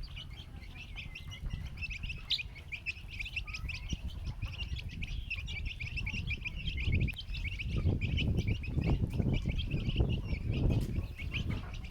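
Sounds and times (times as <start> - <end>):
chicks peeping: 0.0 - 11.9.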